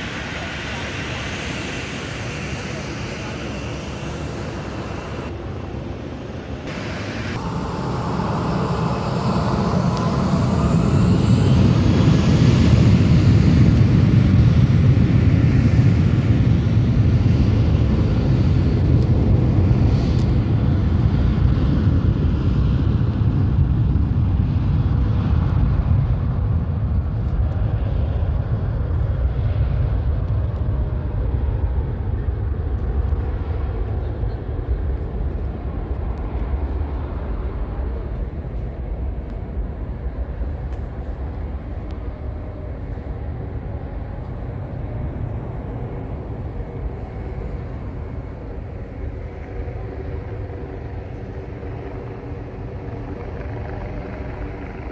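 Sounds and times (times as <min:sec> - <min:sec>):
jet engines rumbling: 0:00.0 - 0:54.9.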